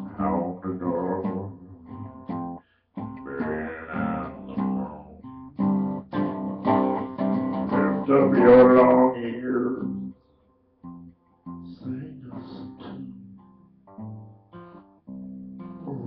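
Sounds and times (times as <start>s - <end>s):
acoustic guitar playing: 0.0s - 10.2s, 10.8s - 16.0s.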